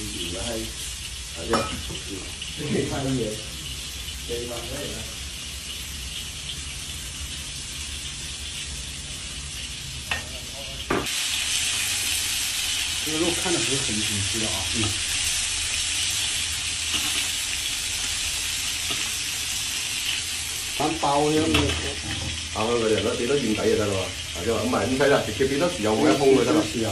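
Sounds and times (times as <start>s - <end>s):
fish sizzling in hot oil: 0.0s - 26.9s.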